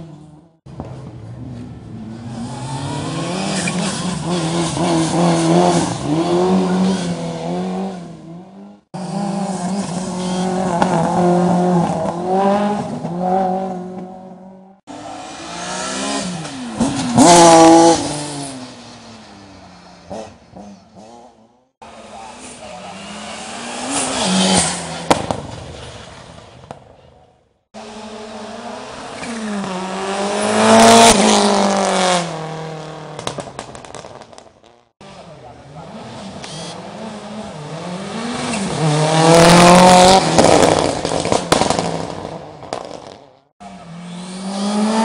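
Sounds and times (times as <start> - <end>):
rally car engines revving: 0.0 - 26.8, 27.8 - 34.4, 35.0 - 45.0.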